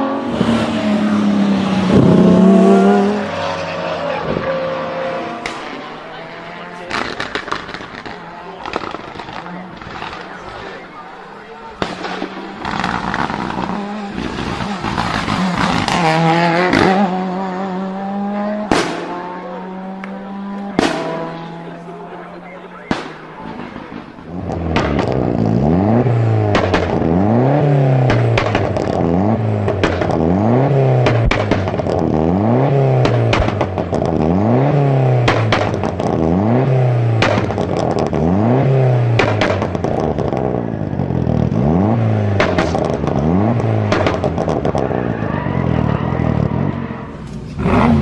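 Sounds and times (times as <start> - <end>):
car engine revving hard: 0.0 - 48.0
exhaust popping and cracking: 5.4 - 17.1, 18.6 - 48.0.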